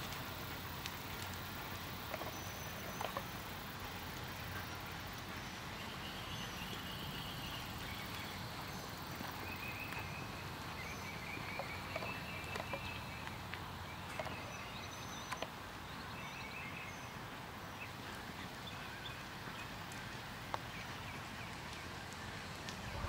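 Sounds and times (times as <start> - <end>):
low rumble and hiss: 0.0 - 23.0.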